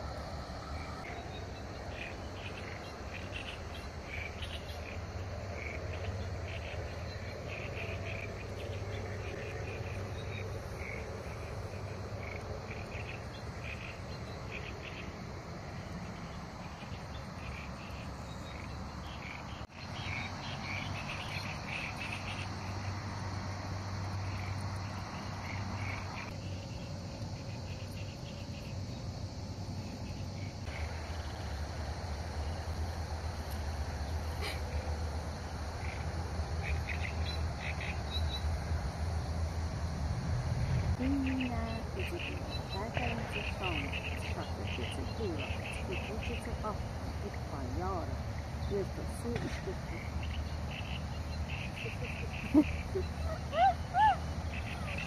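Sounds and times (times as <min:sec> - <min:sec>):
crickets and insects chirping: 0:00.0 - 0:55.0.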